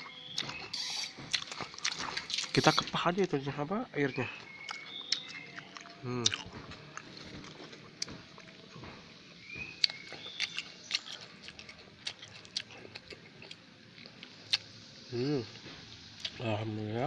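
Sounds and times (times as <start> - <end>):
person chewing root crunchily: 0.0 - 3.5, 4.1 - 14.8, 16.2 - 16.5.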